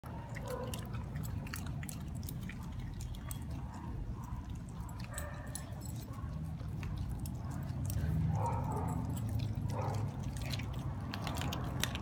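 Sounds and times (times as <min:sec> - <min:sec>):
dogs chewing wetly: 0:00.0 - 0:12.0.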